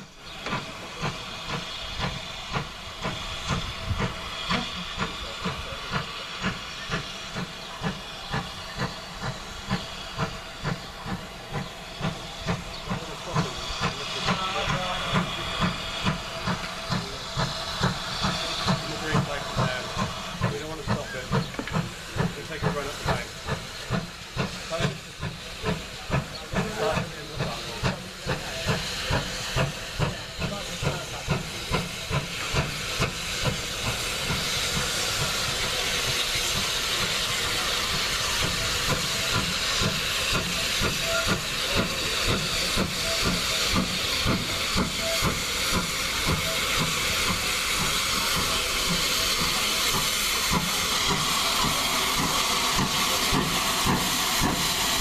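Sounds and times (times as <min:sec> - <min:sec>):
rush of steam and running noise: 0:00.0 - 0:55.0
steam locomotive exhaust beats: 0:00.0 - 0:55.0.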